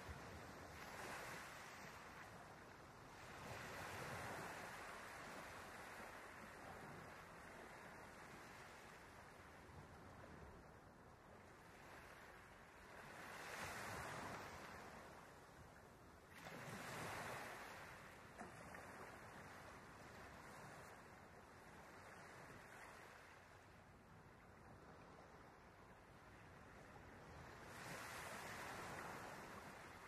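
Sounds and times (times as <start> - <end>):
faint ocean waves: 0.0 - 30.0.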